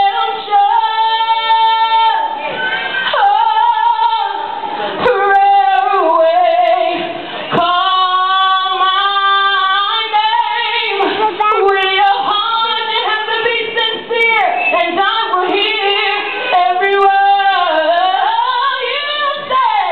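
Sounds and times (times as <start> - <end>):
woman singing wordless solo: 0.0 - 2.4, 3.1 - 19.9.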